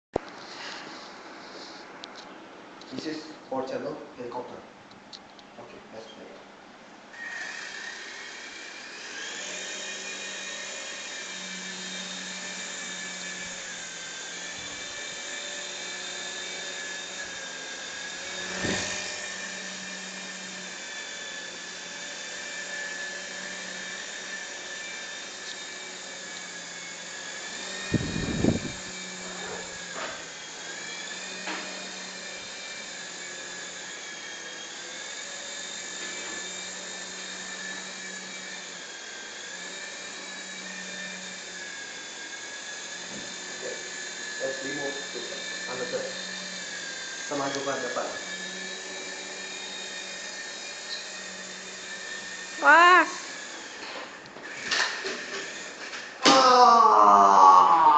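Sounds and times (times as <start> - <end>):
rc helicopter rotors whining: 7.1 - 57.9.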